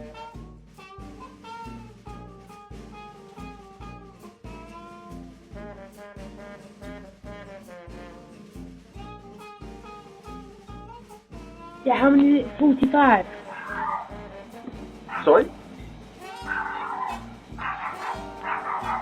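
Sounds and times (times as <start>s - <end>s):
jazzy instrumental music: 0.0s - 19.0s.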